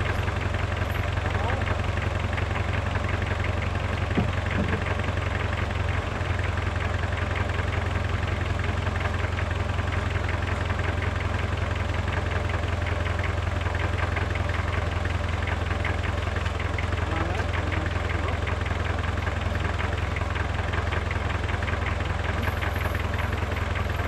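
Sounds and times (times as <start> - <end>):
diesel tractor engine idling: 0.0 - 24.0.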